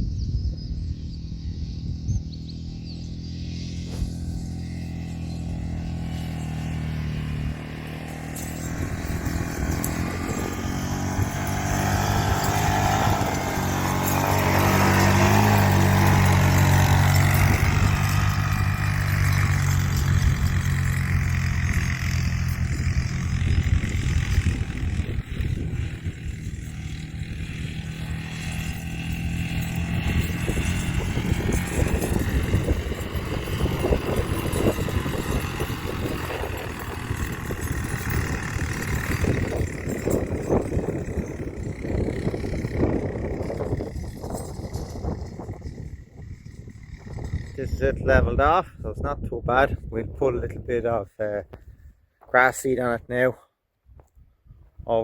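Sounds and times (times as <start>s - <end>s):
quad bike engine running: 0.0s - 50.6s.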